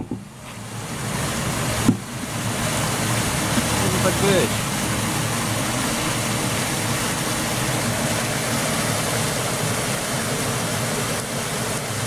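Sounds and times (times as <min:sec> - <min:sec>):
water rushing into manhole shaft: 0:00.0 - 0:12.0.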